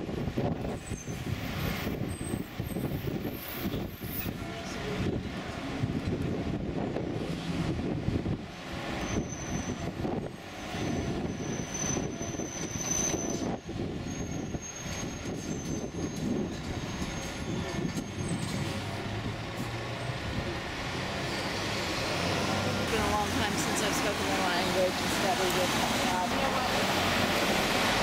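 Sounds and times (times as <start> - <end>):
road traffic: 0.0 - 28.0
truck diesel engine rumbling: 0.0 - 28.0.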